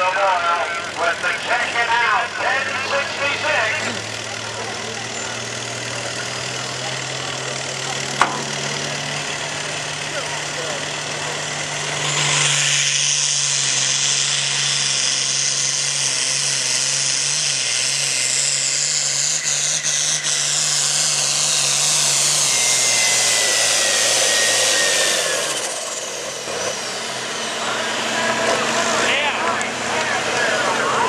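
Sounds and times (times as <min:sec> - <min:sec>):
diesel tractor engine running: 0:00.0 - 0:31.0
loud high turbo whine: 0:00.0 - 0:31.0.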